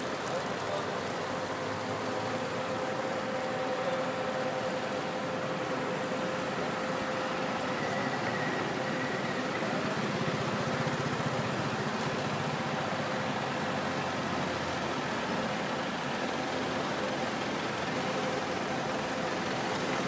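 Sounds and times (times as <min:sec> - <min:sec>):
steady whine: 0:00.0 - 0:20.0.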